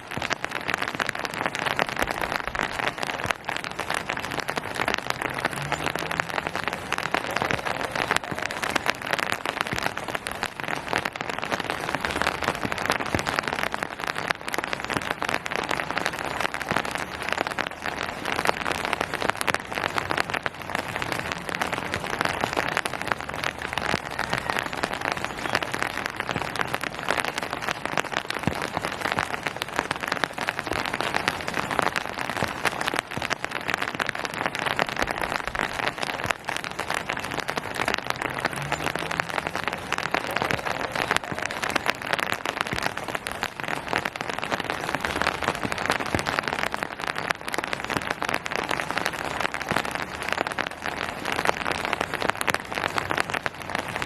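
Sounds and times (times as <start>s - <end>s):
rain pattering on hard surface: 0.0s - 54.0s.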